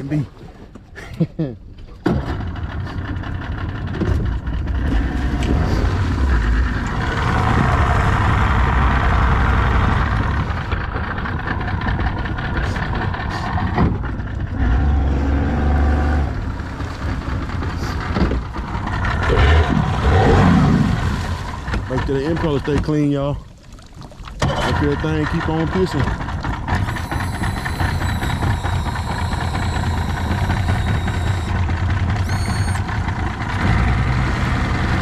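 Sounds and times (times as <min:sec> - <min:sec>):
outboard boat motor running: 0:00.0 - 0:35.0.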